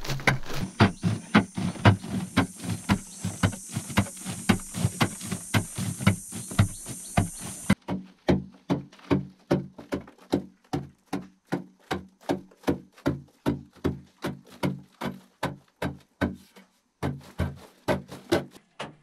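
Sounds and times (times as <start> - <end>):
digging tool chipping earth: 0.0 - 16.4.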